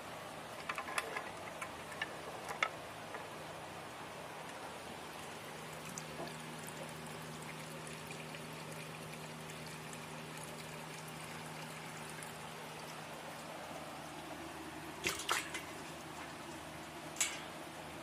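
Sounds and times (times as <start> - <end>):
water trickling and pouring: 0.4 - 18.0.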